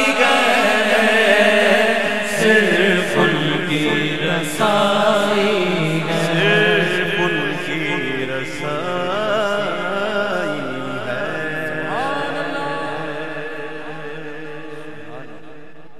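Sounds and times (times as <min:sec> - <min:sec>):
man singing into a microphone: 0:00.0 - 0:15.7.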